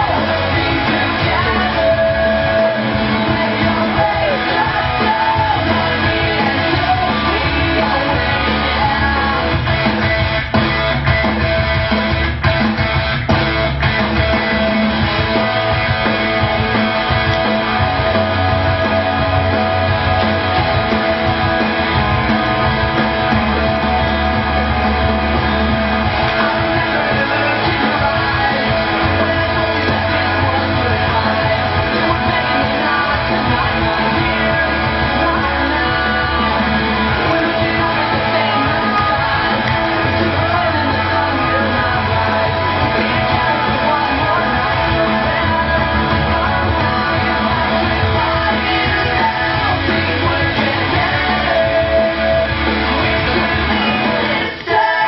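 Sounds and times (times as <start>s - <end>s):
loud rock song: 0.0s - 55.0s.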